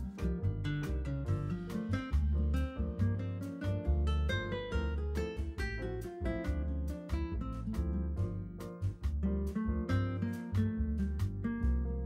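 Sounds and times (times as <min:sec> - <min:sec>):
low bass line: 0:00.0 - 0:12.0
plucked guitar-like notes: 0:00.0 - 0:12.0.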